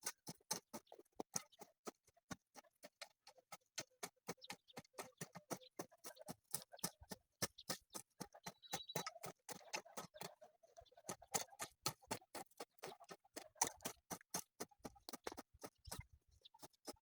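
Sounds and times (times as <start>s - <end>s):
rapid sharp clicks and taps: 0.0s - 17.0s.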